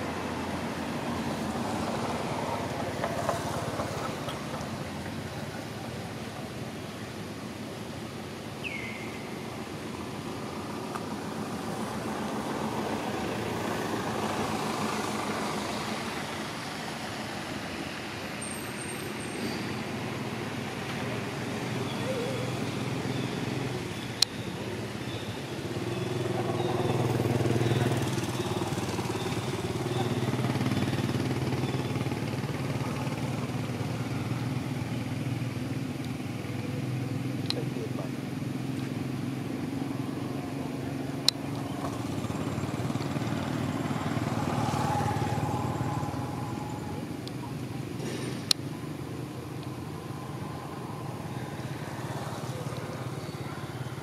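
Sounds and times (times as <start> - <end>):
vehicle engines running: 0.0 - 54.0.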